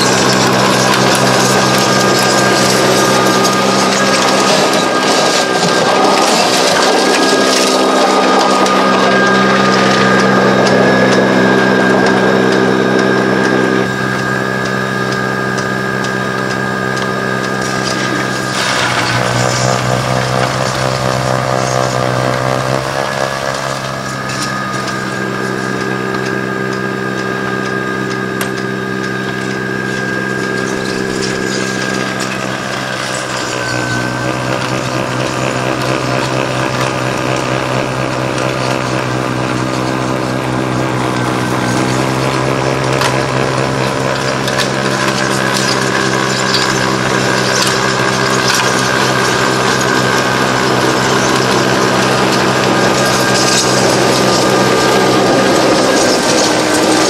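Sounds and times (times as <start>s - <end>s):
electric snow blower whining: 0.0s - 57.0s.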